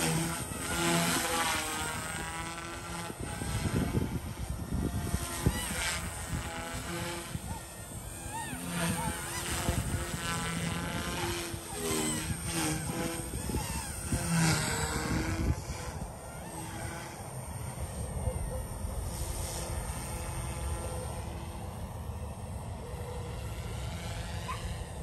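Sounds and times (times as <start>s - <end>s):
rc helicopter motor whine: 0.0s - 25.0s.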